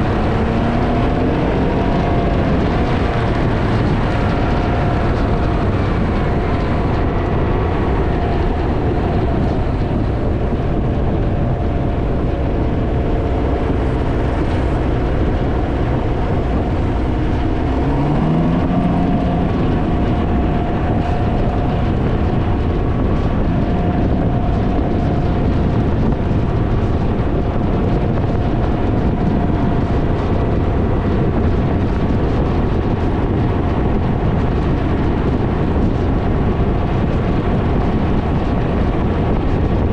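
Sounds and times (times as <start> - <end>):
engine droning: 0.0 - 39.9
wind buffeting microphone: 0.0 - 39.9.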